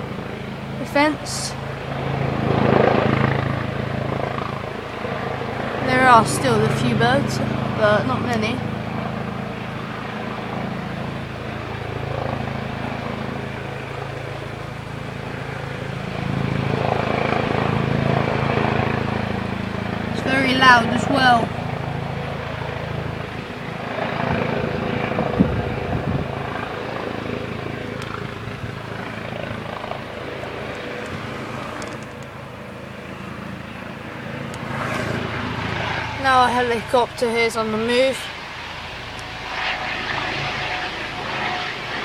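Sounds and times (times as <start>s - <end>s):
helicopter rotor and engine drone: 0.0s - 42.0s.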